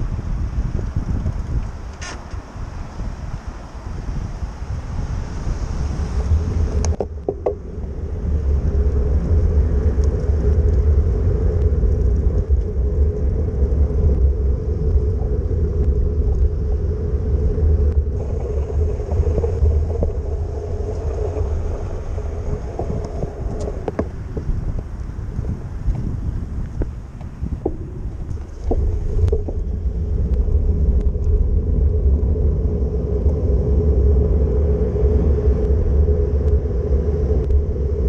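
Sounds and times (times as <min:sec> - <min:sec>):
road hum: 0:00.0 - 0:38.0
wind buffeting microphone: 0:00.0 - 0:38.0.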